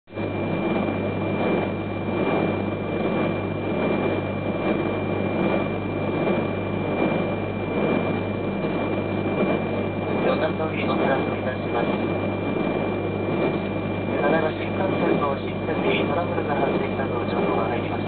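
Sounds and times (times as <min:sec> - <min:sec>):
stationary train humming: 0:00.1 - 0:18.0.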